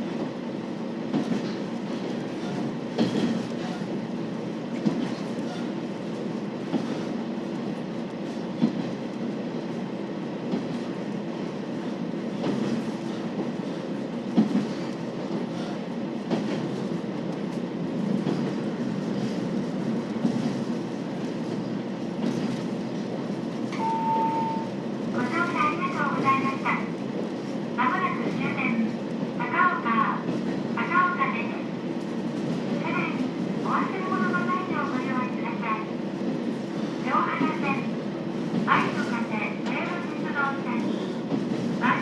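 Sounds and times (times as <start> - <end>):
railcar low rumble: 0.0 - 42.0.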